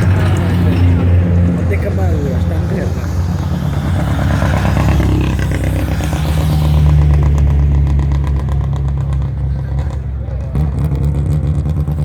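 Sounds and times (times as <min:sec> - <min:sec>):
race car engine at low revs: 0:00.0 - 0:12.0.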